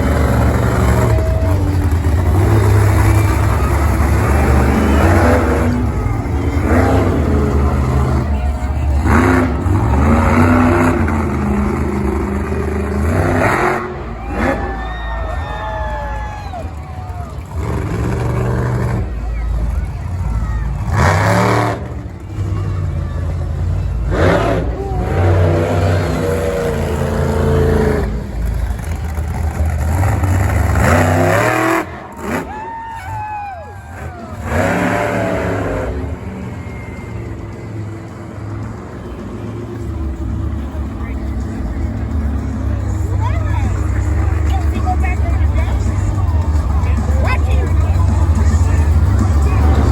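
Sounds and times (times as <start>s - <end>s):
truck engine revving hard: 0.0s - 49.9s.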